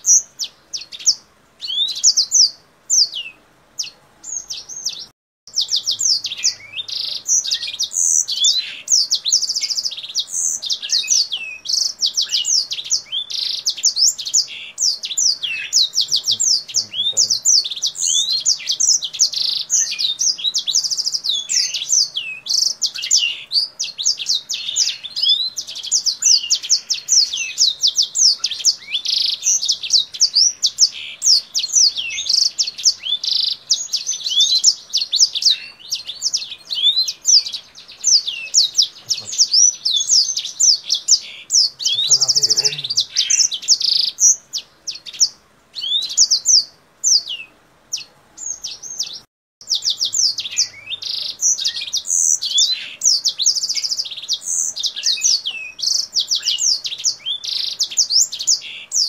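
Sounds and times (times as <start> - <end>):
bird singing chirps and trills: 0.0 - 59.0.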